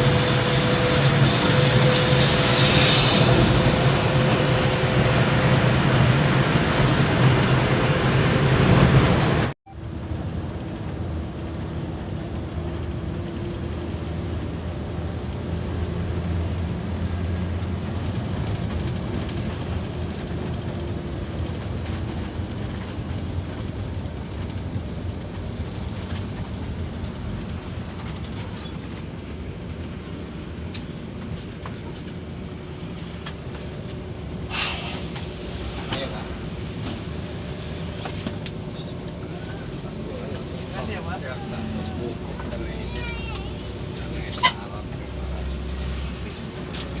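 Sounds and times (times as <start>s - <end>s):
coach engine drone: 0.0s - 47.0s
road and tyre noise: 0.0s - 47.0s.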